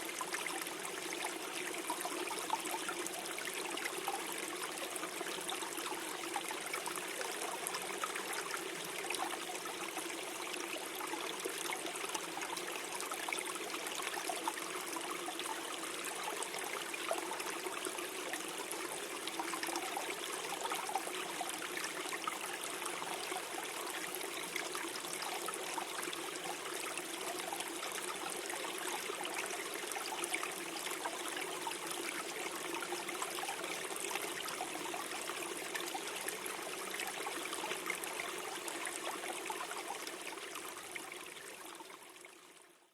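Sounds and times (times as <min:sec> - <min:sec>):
stream trickling over stones: 0:00.0 - 0:42.7.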